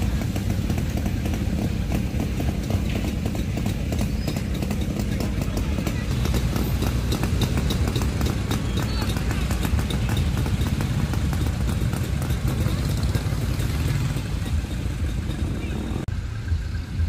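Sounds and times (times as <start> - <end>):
low engine rumble: 0.0 - 17.0
motorcycle engines popping: 0.0 - 17.0.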